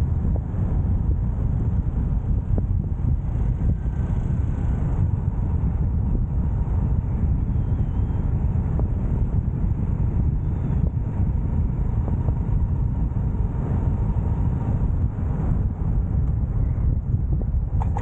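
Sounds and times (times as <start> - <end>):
motorcycle engine and road noise: 0.0 - 18.0
wind buffeting microphone: 0.0 - 18.0.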